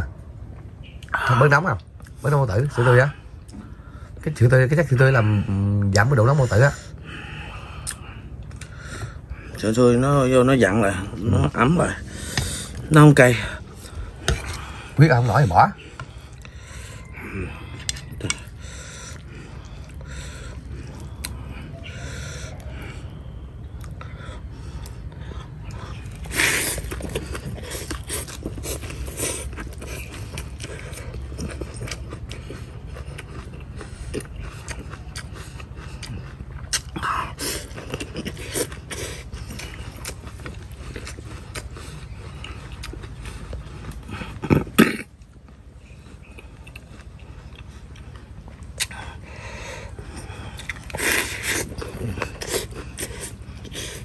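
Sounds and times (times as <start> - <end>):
person chewing: 7.2 - 9.6, 10.8 - 54.0.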